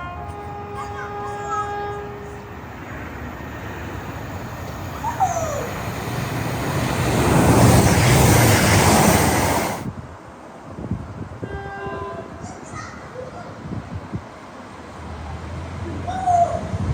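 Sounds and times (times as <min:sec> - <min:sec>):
train passing rumble: 0:00.0 - 0:16.9.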